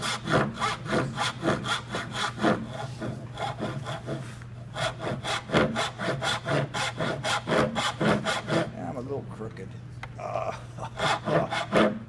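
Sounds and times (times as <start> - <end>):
hand saw cutting wood: 0.0 - 8.8, 10.9 - 12.0.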